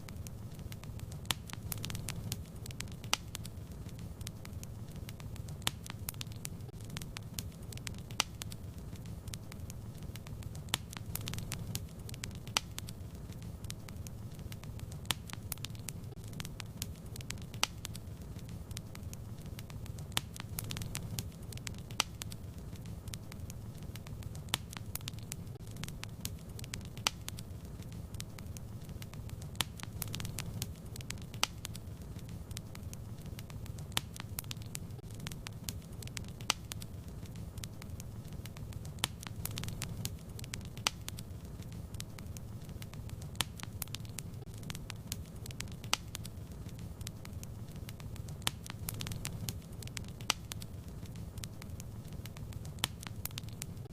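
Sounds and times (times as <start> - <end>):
fire crackling and popping: 0.0 - 53.9
low rumble of flames: 0.0 - 53.9.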